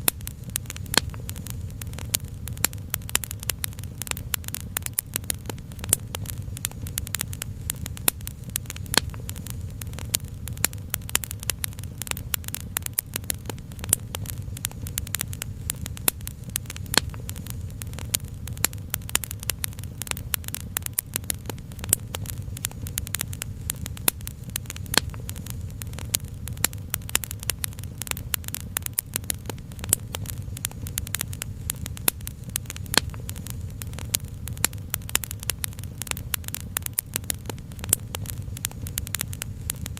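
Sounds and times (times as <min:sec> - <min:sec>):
steady low rumble: 0:00.0 - 0:39.9
wood fire crackling: 0:00.0 - 0:39.9.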